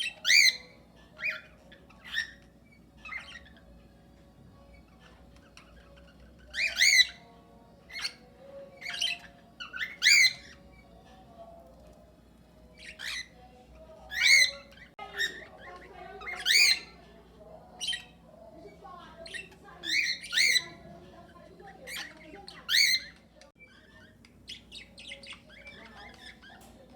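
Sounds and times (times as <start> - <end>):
cockatiels and budgerigars calling: 0.0 - 26.9
quiet bird chatter: 0.0 - 26.9.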